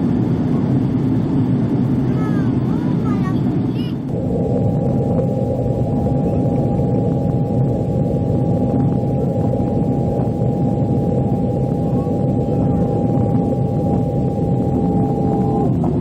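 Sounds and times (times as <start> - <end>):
thin constant whine: 0.0 - 16.0.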